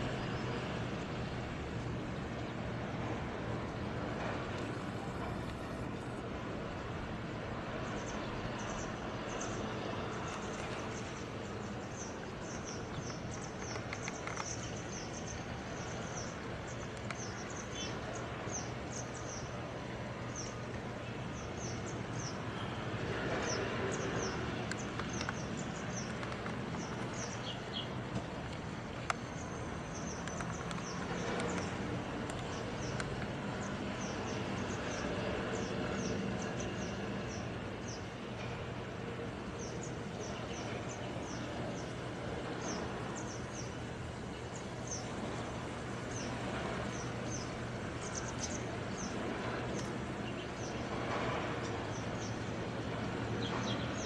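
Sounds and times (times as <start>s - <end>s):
constant hum and hiss: 0.0s - 54.0s.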